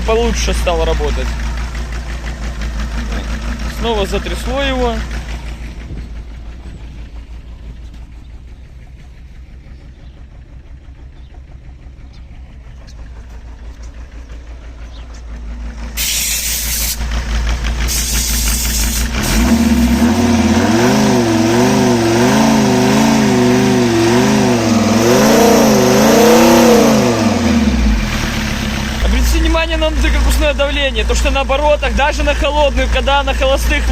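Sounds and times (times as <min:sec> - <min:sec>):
diesel engine running unevenly: 0:00.0 - 0:33.9.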